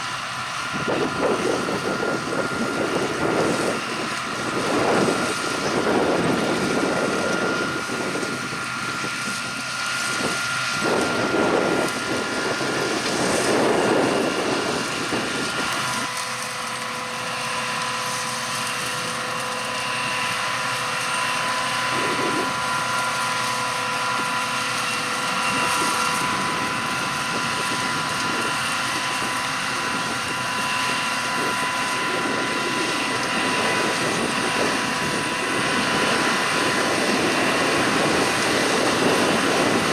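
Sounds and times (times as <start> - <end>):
harvest machinery running: 0.0 - 39.9
high-pitched mechanical whine: 0.0 - 39.9
wind buffeting microphone: 0.6 - 16.1, 21.1 - 39.9.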